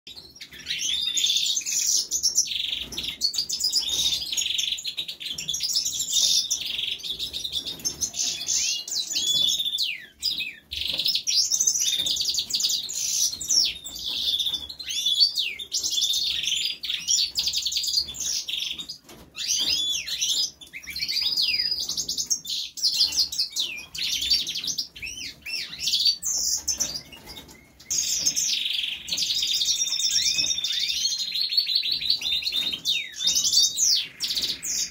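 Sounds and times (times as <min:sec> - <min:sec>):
goldfinch twittering song: 0:00.1 - 0:34.9.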